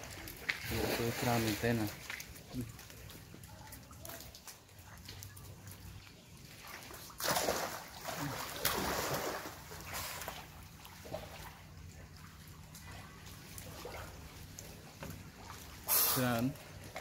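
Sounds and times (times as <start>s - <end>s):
crocodiles splashing in water: 0.0s - 5.1s, 6.5s - 17.0s.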